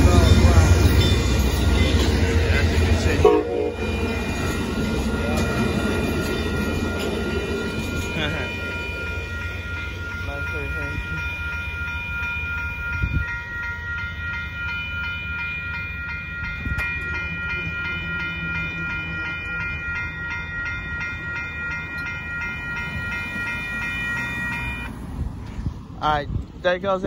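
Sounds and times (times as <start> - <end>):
crossing warning bell ringing: 0.0 - 25.6
train clanks: 0.0 - 27.0
train rumbling: 0.0 - 27.0.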